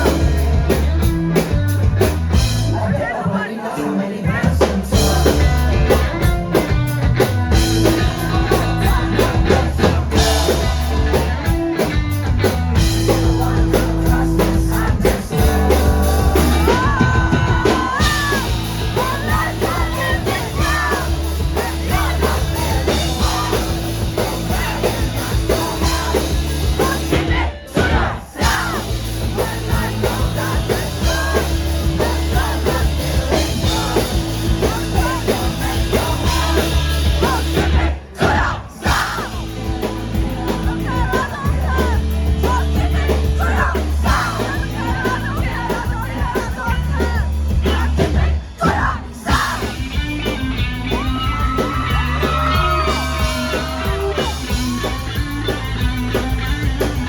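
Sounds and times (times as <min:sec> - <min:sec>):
live rock band playing: 0:00.0 - 0:57.0
person singing lead vocal: 0:00.0 - 0:57.0.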